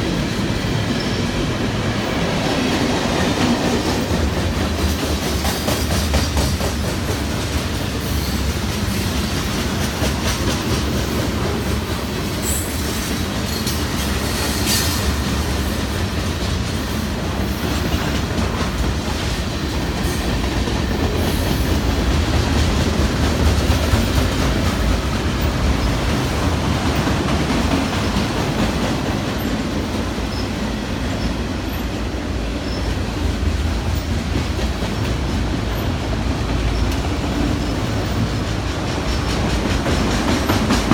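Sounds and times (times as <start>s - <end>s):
steel wheels rumbling on rail: 0.0s - 40.9s.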